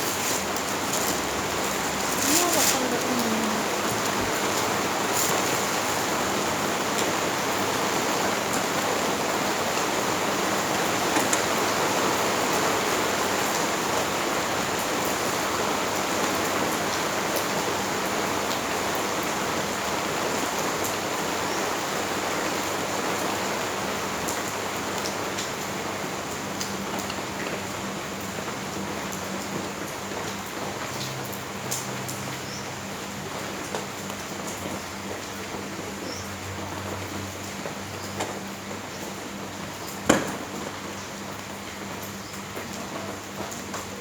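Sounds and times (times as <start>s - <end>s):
rain falling: 0.0s - 44.0s
raindrops ticking on hard surfaces: 0.0s - 44.0s.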